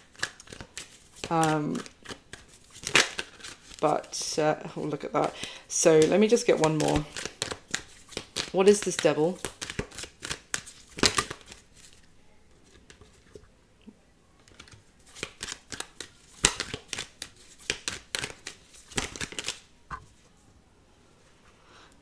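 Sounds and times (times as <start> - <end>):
cards being shuffled by hand: 0.0 - 12.0, 12.6 - 13.5, 14.4 - 20.2.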